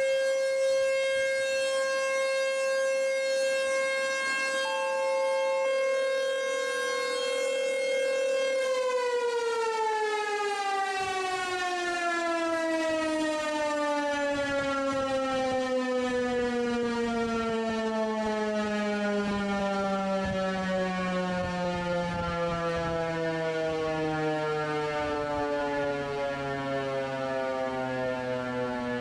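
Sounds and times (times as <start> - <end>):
warning siren winding down: 0.0 - 29.0.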